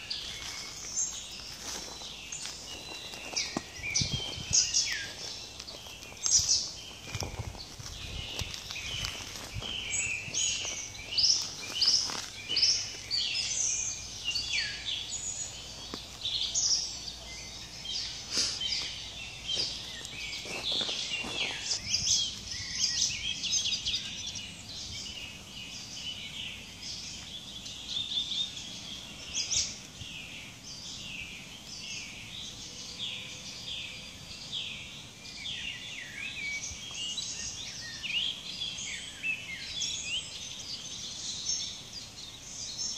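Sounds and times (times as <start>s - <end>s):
songbirds chirping and whistling: 0.0s - 42.9s.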